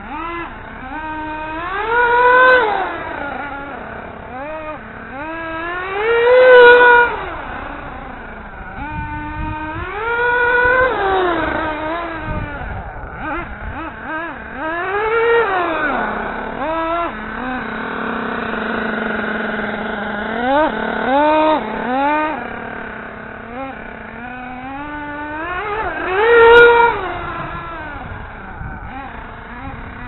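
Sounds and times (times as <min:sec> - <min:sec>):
toy buggy motor revving: 0:00.0 - 0:30.0.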